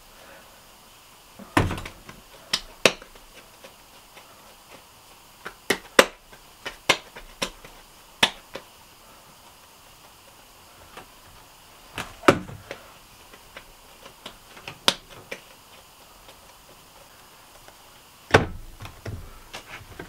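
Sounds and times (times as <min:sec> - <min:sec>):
hands slapping dough: 0:01.4 - 0:08.8, 0:10.0 - 0:20.0.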